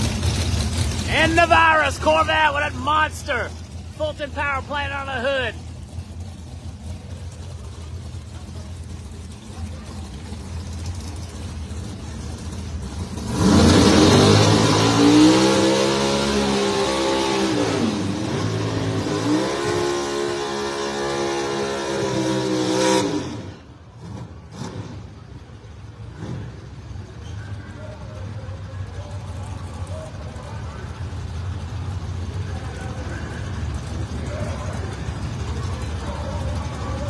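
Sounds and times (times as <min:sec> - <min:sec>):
drag race cars launching: 0:00.0 - 0:37.0.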